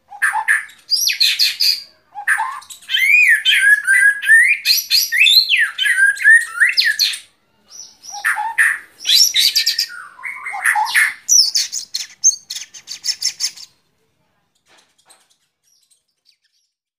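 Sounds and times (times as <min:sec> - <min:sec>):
bird singing whistled phrases: 0:00.1 - 0:13.8.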